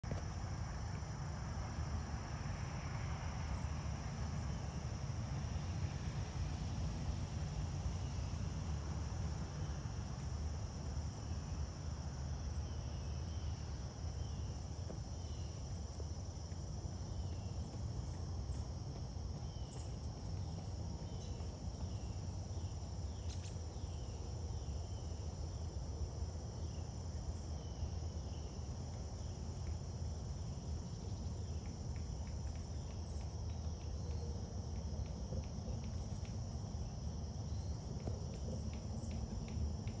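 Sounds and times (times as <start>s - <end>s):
low steady rumble: 0.0s - 40.0s
insect chorus buzzing: 0.1s - 40.0s.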